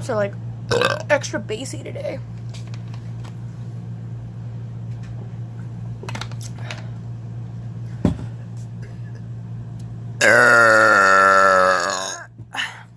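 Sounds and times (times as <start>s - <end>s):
low room hum: 0.0s - 12.9s.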